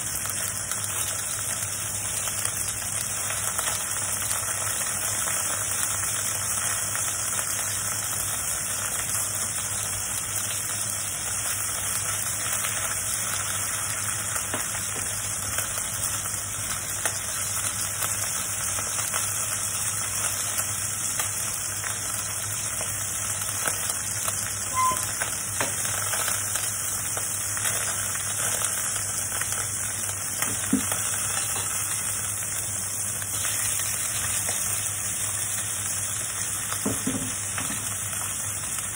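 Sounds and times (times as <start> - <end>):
meat sizzling in hot oil: 0.0 - 38.9.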